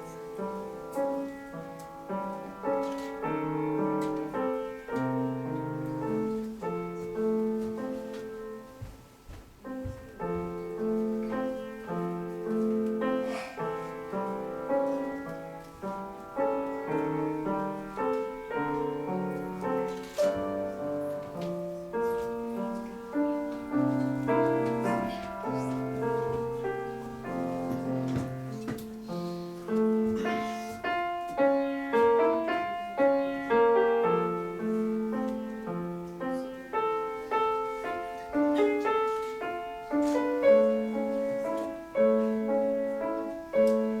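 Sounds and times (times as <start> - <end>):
solo piano: 0.0 - 44.0.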